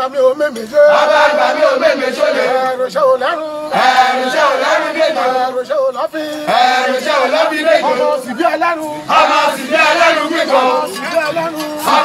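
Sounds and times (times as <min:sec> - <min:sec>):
men chanting together: 0:00.7 - 0:12.0.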